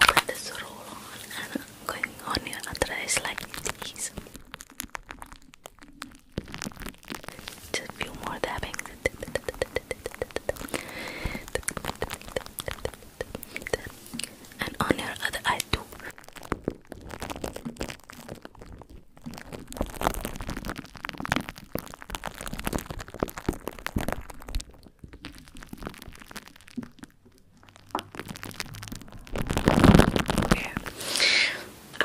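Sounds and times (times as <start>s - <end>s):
plastic container rubbed and tapped: 1.9s - 27.0s, 27.9s - 31.0s.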